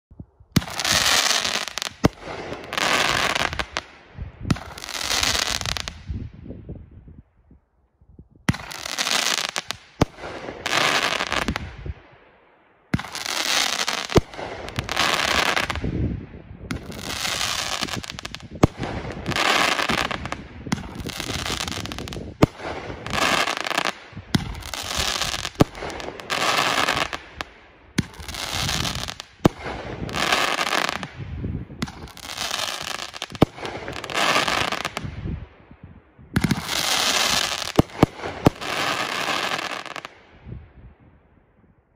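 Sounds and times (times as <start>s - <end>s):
noisy firework bursts: 0.6s - 6.1s, 8.5s - 12.0s, 12.9s - 16.0s, 16.7s - 35.2s, 36.3s - 40.3s.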